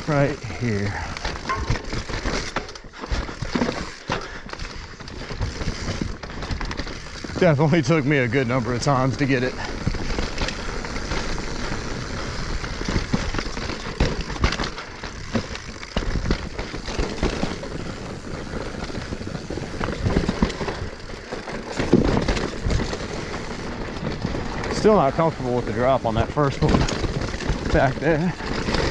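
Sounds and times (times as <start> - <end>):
bike knocking and rattling: 0.0 - 28.9
bike tyres grinding over rock: 0.0 - 28.9.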